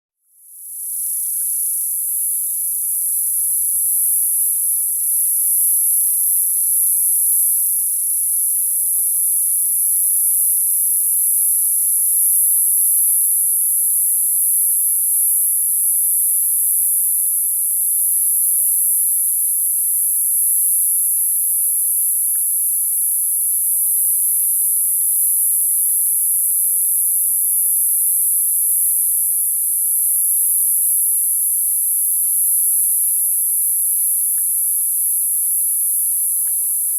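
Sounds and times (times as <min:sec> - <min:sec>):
cicadas singing: 0:00.5 - 0:36.9.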